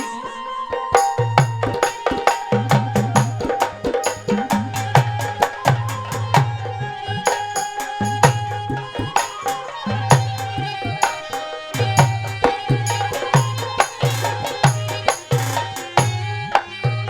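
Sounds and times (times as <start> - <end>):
held melody line: 0.0 - 16.8
hand-drum beat: 0.8 - 16.7.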